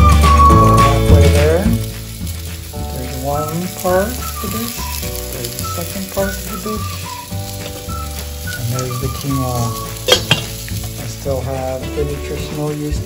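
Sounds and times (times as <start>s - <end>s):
background music with pulsing bass: 0.0s - 13.0s
vegetables sizzling in frying pan: 0.0s - 13.0s.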